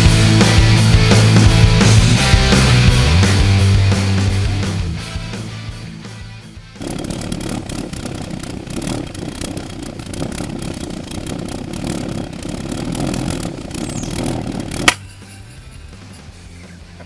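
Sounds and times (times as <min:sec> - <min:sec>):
pulse jet engine buzzing: 0:00.0 - 0:15.0.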